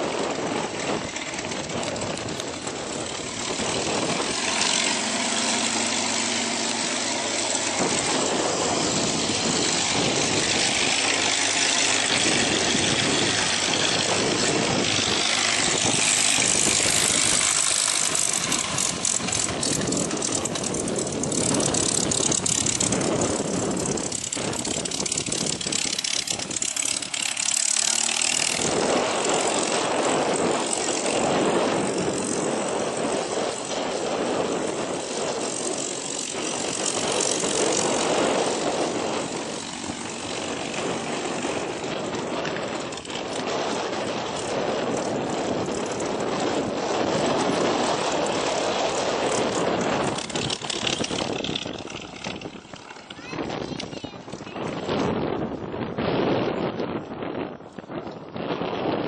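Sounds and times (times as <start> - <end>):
propeller aircraft engines: 0.0 - 59.0.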